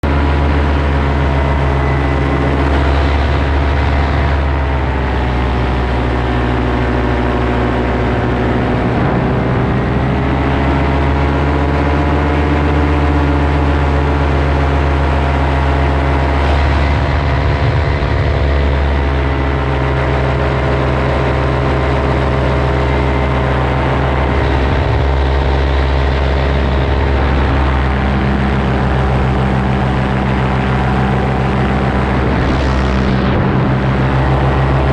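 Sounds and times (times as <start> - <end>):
paramotor engine and propeller: 0.0 - 34.9.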